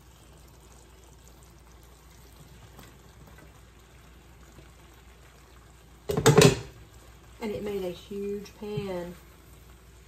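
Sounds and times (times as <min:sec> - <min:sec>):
pasta pouring into a pan: 0:00.0 - 0:10.0.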